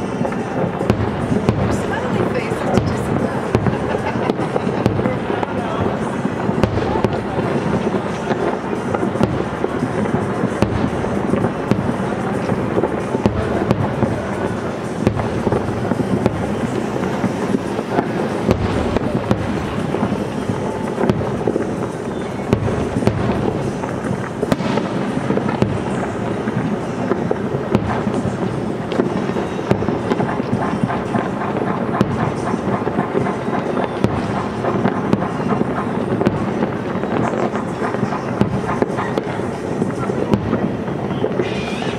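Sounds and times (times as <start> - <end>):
firework shells bursting: 0.0 - 41.9.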